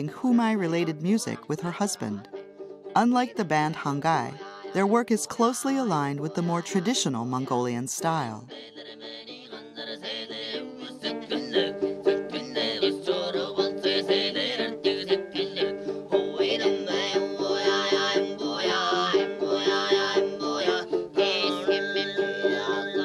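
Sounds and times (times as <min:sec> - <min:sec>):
plucked string instrument: 0:00.0 - 0:23.0.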